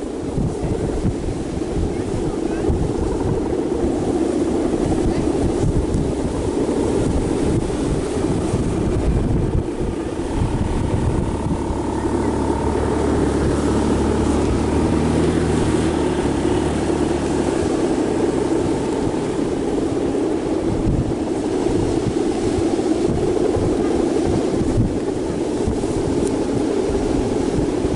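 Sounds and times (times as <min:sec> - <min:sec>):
engine humming: 0:00.0 - 0:27.9
wind buffeting microphone: 0:00.0 - 0:27.9.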